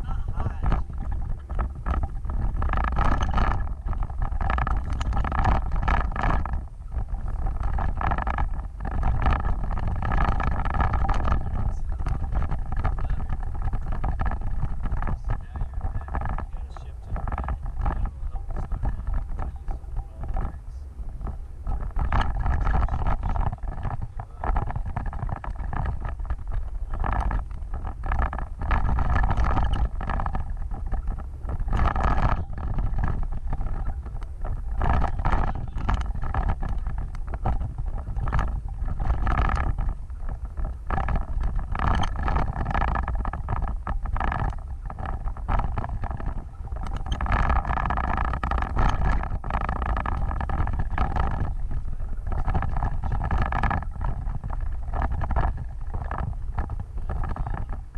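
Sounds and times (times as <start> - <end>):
off-road vehicle engine rumble: 0.0 - 57.9
wind buffeting microphone: 0.0 - 57.9.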